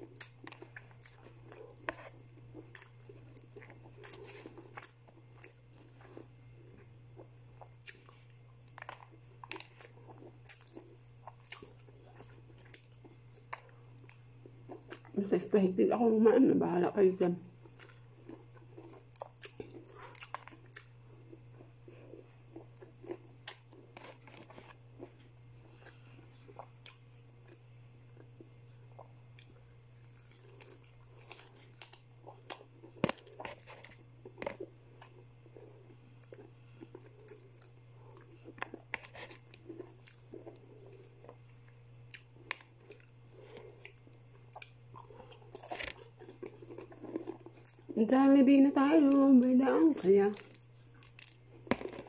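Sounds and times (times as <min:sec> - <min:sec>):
crunchy fried chicken chewing: 0:00.0 - 0:15.2, 0:17.5 - 0:48.0, 0:48.9 - 0:52.0.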